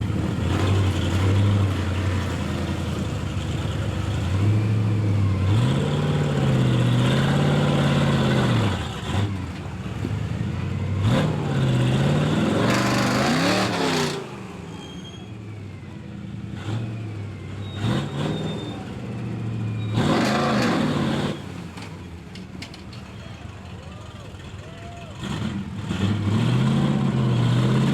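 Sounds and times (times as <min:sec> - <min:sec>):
truck engine revving: 0:00.0 - 0:27.9.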